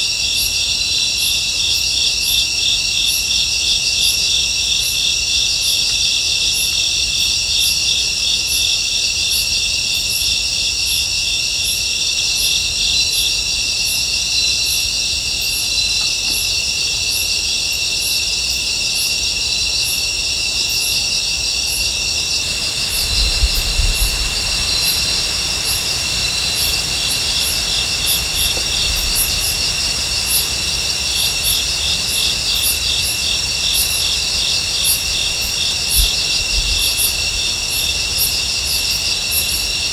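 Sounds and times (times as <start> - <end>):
cricket chirping: 0.0 - 39.9
insects trilling: 0.0 - 39.9.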